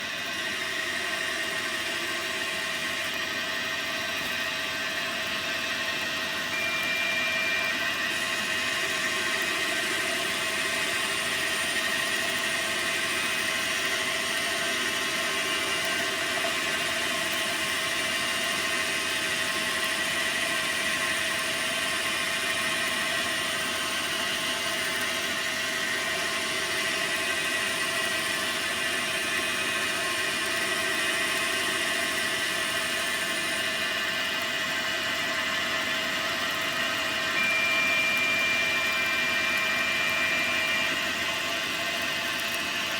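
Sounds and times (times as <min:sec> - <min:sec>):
lathe running with whine: 0:00.0 - 0:42.9.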